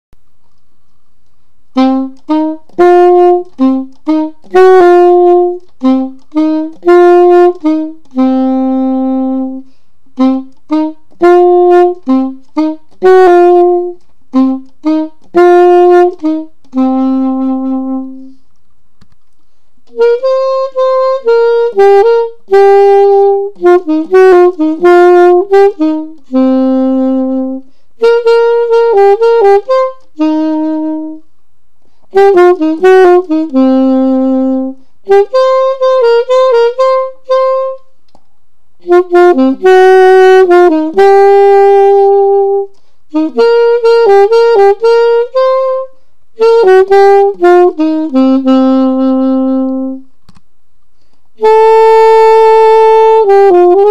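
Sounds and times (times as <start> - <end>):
solo saxophone melody: 0.5 - 18.5, 19.4 - 38.1, 38.7 - 50.2, 50.9 - 53.9.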